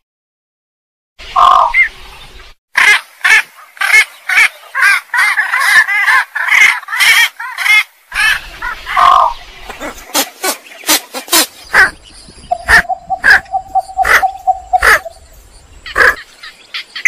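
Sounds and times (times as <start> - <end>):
bird calls: 1.3 - 17.0.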